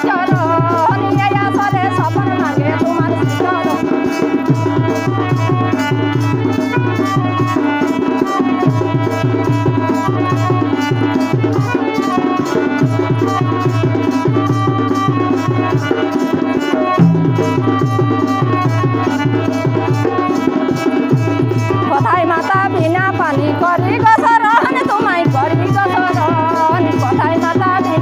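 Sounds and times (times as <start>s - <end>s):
hand-drum rhythm: 0.0s - 28.0s
held melody line: 0.0s - 28.0s.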